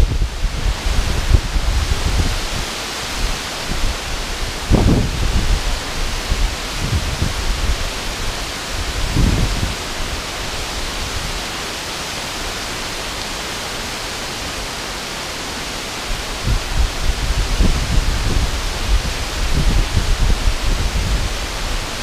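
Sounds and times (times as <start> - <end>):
rushing water over rocks: 0.0 - 22.0.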